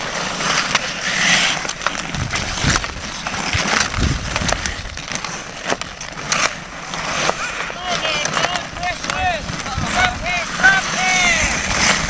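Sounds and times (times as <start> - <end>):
hockey sticks clacking on puck: 0.0 - 12.0
ice skates scraping ice: 0.0 - 12.0.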